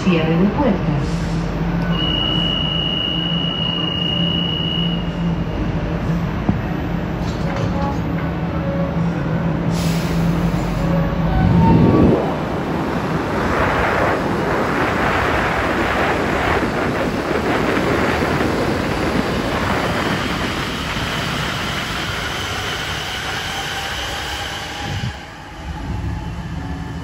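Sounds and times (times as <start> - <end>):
metro train rushing noise: 0.0 - 27.0.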